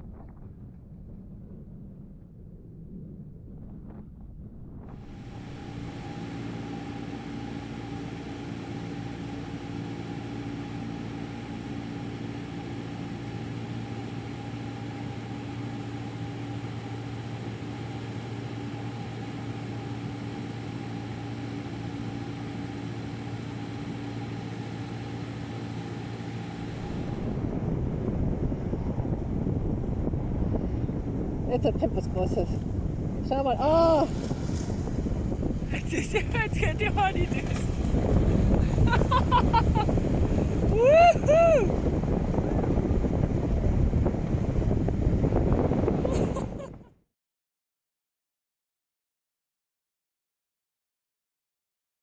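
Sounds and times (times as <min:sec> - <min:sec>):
steady engine drone: 0:00.0 - 0:46.9.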